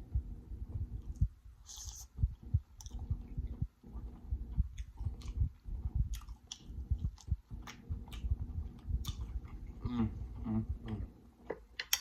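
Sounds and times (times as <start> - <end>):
chewing soft food: 0.8 - 11.1.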